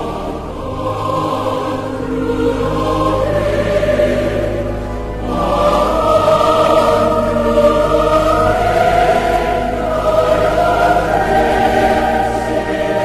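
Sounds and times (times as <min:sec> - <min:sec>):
choir singing sustained notes: 0:00.0 - 0:13.0
low bass: 0:00.0 - 0:13.0.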